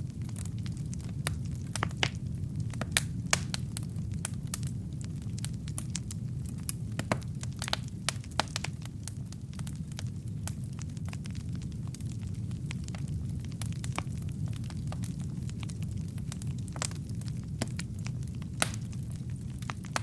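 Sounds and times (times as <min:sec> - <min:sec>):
fire rumbling: 0:00.0 - 0:20.0
logs crackling and popping: 0:00.0 - 0:20.0.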